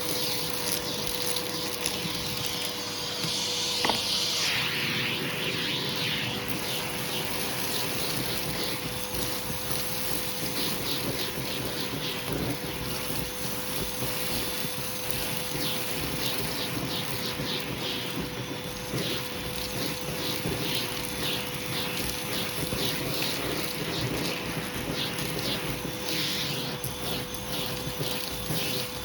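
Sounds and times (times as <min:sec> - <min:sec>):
vacuum hose hissing strokes: 0:00.0 - 0:15.5, 0:21.2 - 0:29.0
vacuum cleaner motor hum: 0:00.0 - 0:29.0.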